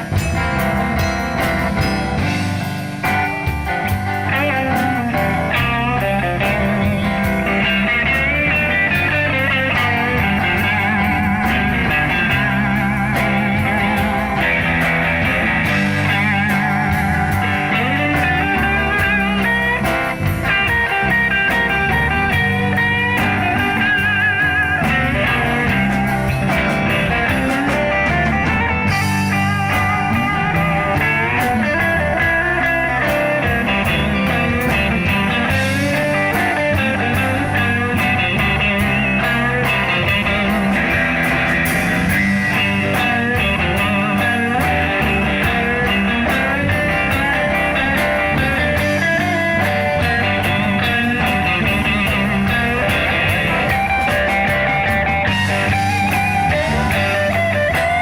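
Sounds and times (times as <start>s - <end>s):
bass line: 0.0s - 58.0s
drums: 0.0s - 58.0s
lead guitar solo: 0.0s - 58.0s.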